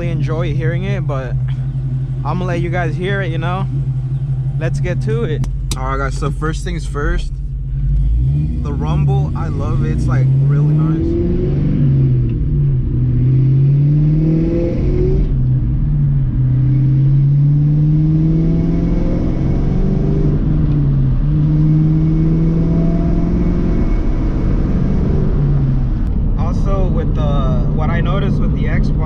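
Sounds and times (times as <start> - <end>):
car engine accelerating through gears: 0.0 - 29.0.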